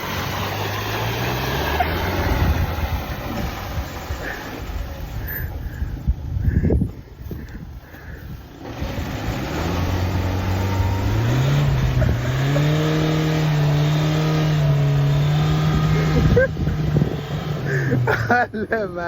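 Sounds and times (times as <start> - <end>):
car engine revving: 0.0 - 5.9, 7.8 - 18.2.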